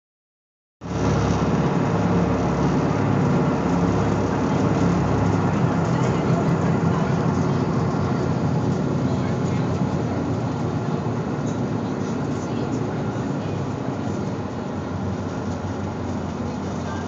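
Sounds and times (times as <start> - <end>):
boat engine drone: 0.8 - 17.0
rushing wind: 0.8 - 17.0.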